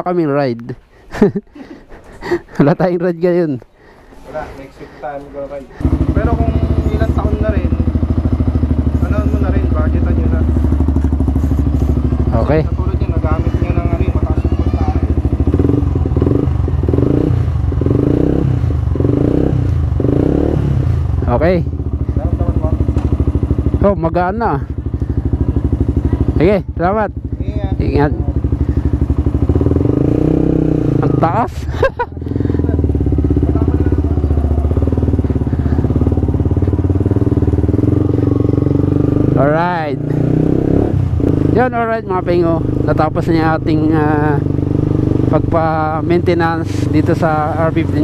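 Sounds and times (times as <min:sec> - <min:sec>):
motorcycle engine running: 0:05.4 - 0:48.0.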